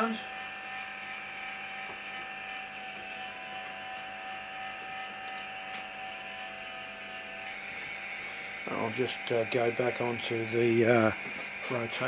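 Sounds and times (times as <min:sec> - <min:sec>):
antenna rotator motor whining: 0:00.0 - 0:12.0.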